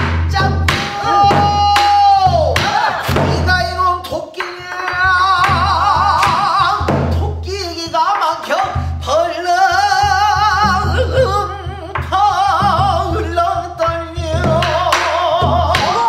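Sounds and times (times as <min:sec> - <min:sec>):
man singing with wide vibrato: 0:00.2 - 0:16.0.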